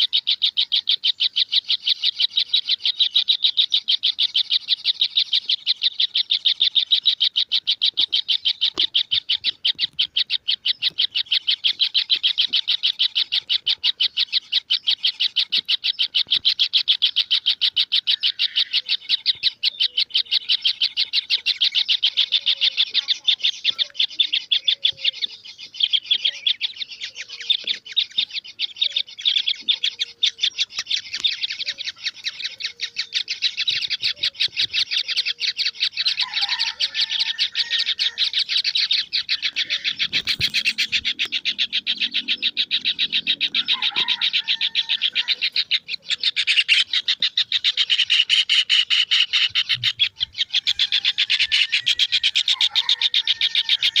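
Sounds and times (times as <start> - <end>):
kingfisher chick calling: 0.0 - 54.0.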